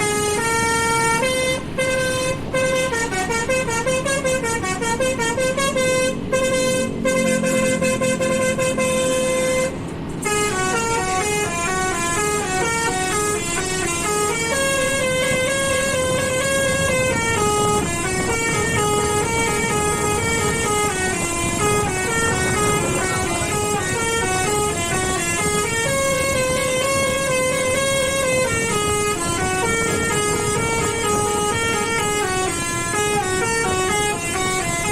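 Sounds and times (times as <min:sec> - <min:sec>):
musical bus horn playing a tune: 0:00.0 - 0:34.9.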